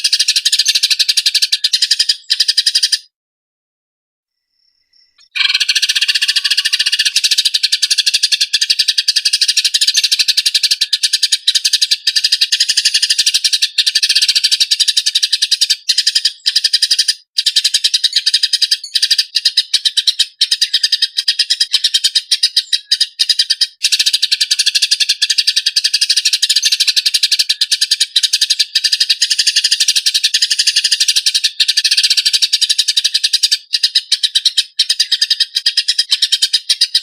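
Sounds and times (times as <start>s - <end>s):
sparrows chirping harshly: 0.0s - 3.1s, 4.4s - 37.0s.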